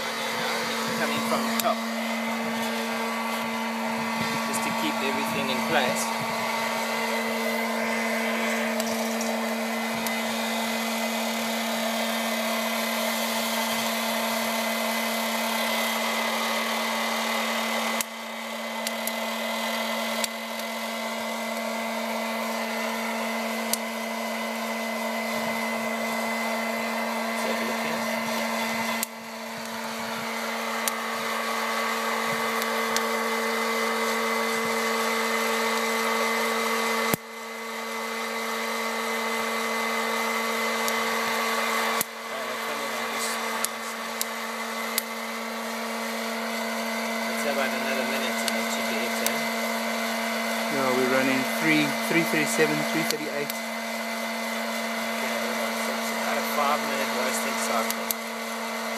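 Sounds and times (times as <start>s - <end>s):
motor hum: 0.0s - 58.9s.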